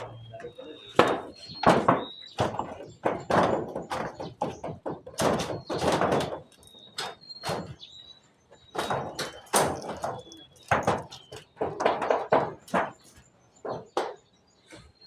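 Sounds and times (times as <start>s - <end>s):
heavy knocks from carpentry: 0.9s - 7.8s, 8.8s - 14.2s.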